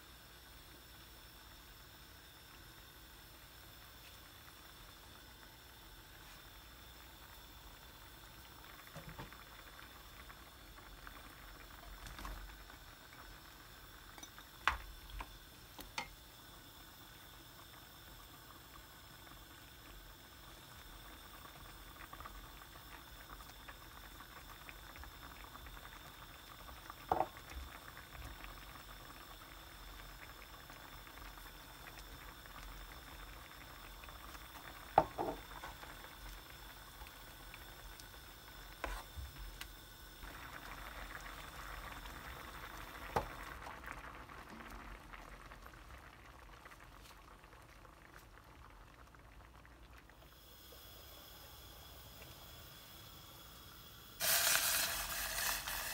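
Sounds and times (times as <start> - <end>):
sauce simmering in a frying pan: 0.0 - 55.9.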